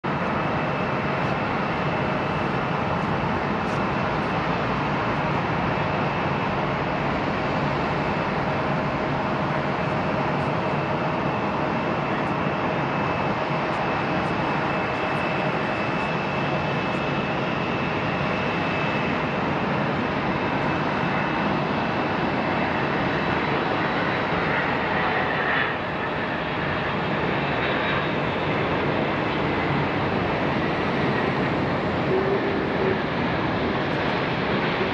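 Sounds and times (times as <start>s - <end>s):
jet engines with high whine: 0.0s - 34.9s.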